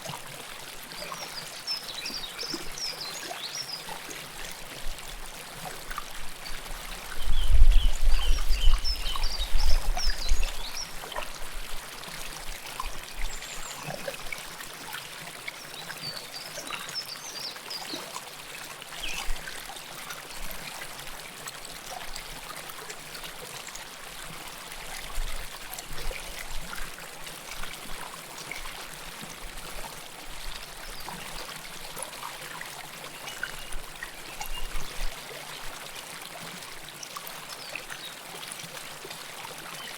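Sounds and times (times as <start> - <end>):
river water flowing: 0.0 - 7.6, 8.2 - 39.9.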